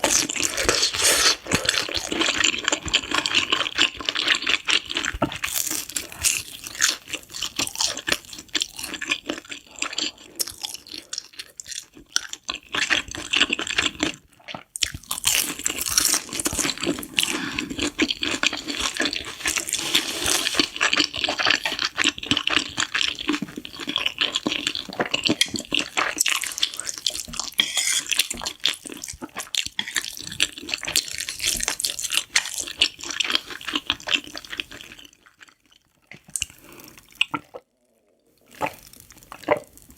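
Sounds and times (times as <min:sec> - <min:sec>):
slurping and chewing noodles: 0:00.0 - 0:39.9.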